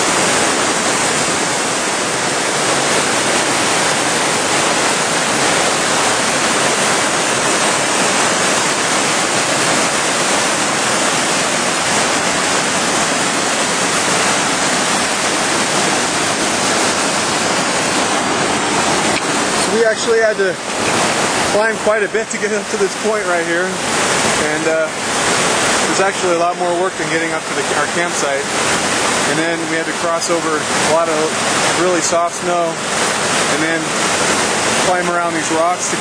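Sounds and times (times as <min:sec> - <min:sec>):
waterfall pouring: 0:00.0 - 0:36.0.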